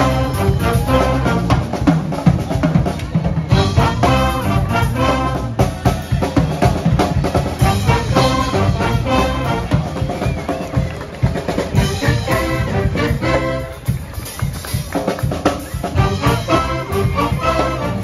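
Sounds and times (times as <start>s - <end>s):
brass band playing: 0.0s - 18.0s
steady drumbeat: 0.0s - 18.0s.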